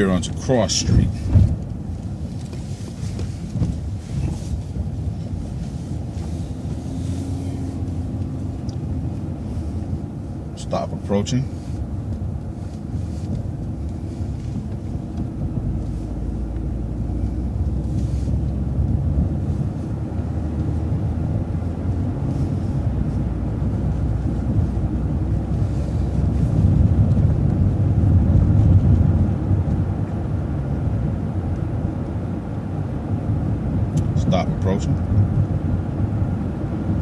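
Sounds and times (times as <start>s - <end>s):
vehicle engine and road rumble: 0.0s - 37.0s.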